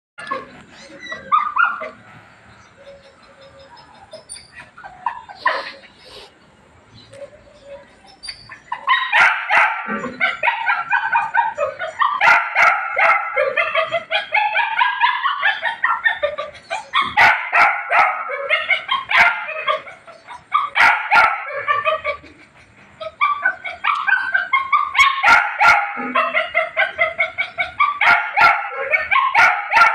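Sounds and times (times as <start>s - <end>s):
puppy yipping and whimpering: 0.2s - 2.0s, 2.8s - 5.8s, 7.2s - 22.4s, 23.0s - 29.9s.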